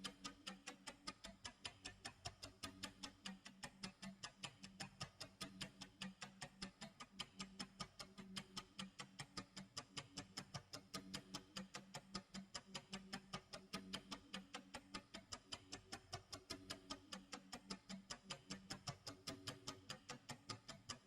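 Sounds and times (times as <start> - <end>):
rapid clock ticks: 0.0 - 21.0.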